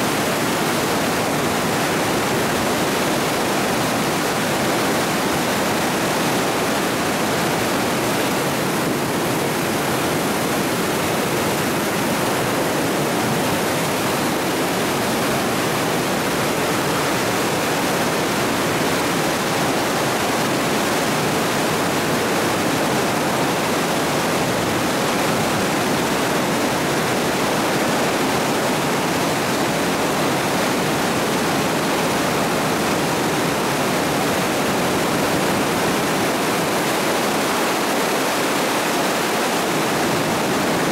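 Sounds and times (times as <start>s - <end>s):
turbulent water rushing: 0.0s - 40.9s.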